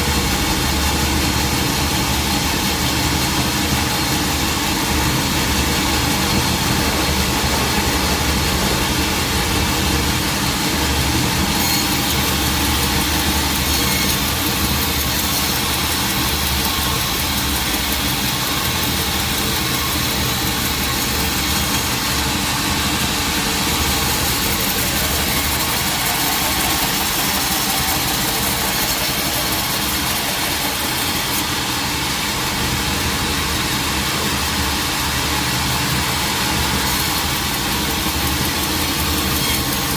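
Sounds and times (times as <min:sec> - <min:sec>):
sawmill engine hum: 0:00.0 - 0:39.9.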